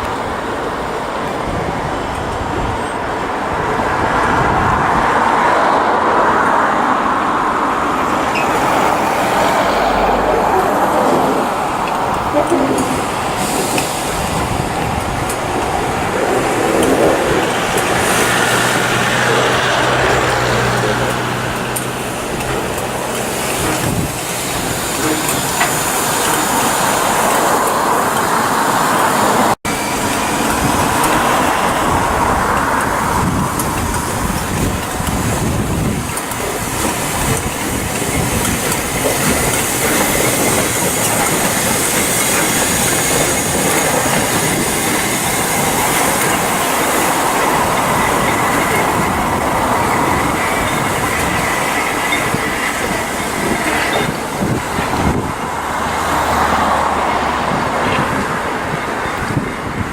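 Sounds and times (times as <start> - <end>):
train wheels clattering over rail joints: 8.2 - 59.9
train wheel squeal: 8.3 - 59.8.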